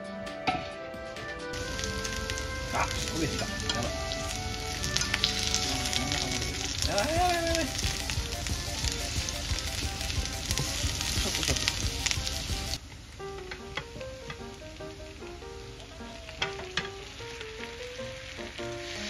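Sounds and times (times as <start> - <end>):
food sizzling in oil: 1.6 - 19.0.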